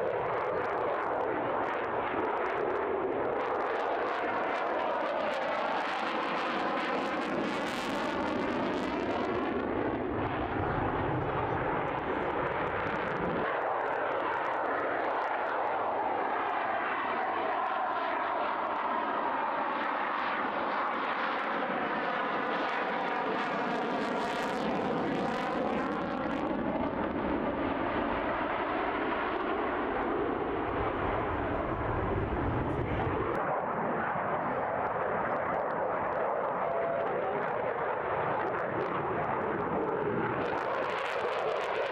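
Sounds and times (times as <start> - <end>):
jet engine roaring: 0.0 - 41.9.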